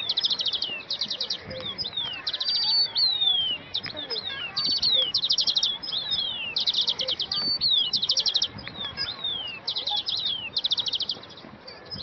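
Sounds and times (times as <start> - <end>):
songbirds singing trills: 0.0 - 12.0.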